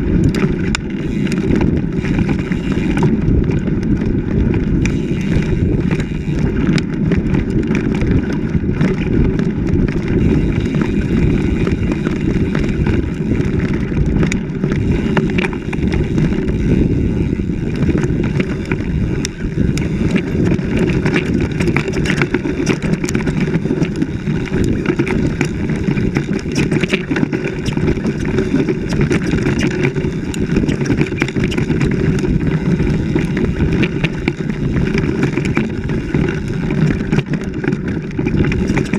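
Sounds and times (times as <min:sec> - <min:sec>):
bike rattling over bumps: 0:00.0 - 0:38.9
wind buffeting camera: 0:00.0 - 0:38.9.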